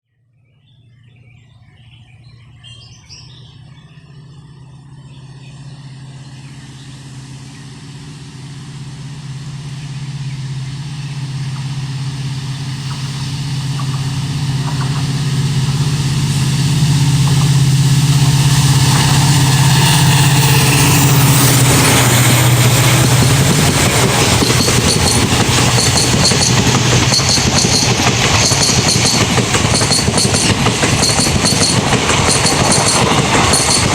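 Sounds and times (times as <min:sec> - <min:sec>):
diesel locomotive engine drone: 0:00.2 - 0:33.9
train rushing and rattling: 0:02.3 - 0:33.9.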